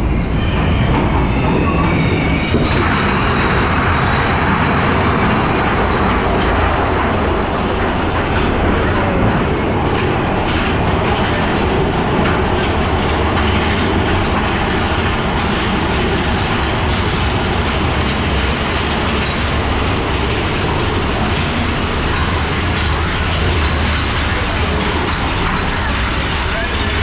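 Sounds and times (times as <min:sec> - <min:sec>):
roller coaster wheels rumbling: 0:00.0 - 0:27.0.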